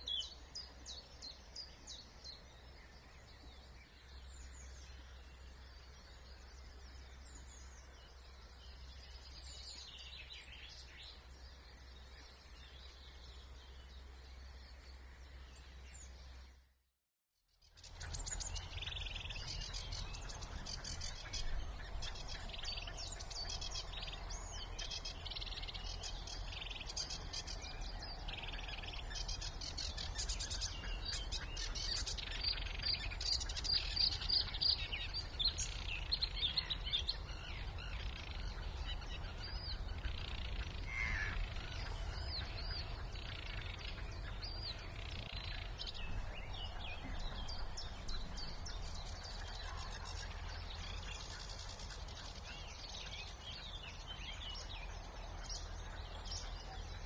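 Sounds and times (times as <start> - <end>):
songbirds singing: 0.0 - 16.8, 17.4 - 57.0.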